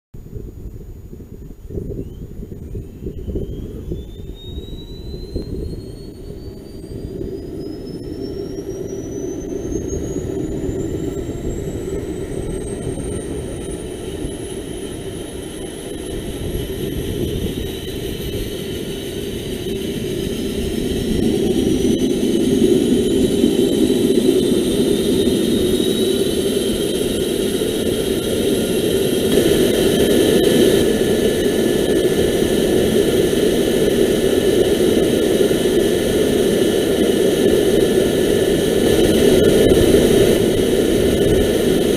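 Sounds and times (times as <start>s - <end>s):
turboshaft engine whine rising: 0.2s - 41.9s.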